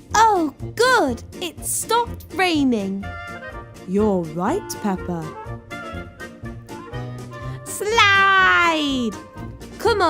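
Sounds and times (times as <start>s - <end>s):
bouncy cartoon music: 0.0s - 10.0s.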